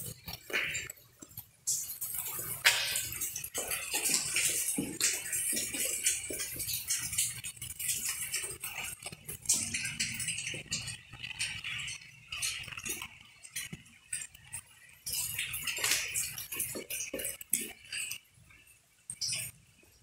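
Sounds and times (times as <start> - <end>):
clinks scrapes and crackles: 0.0 - 19.6.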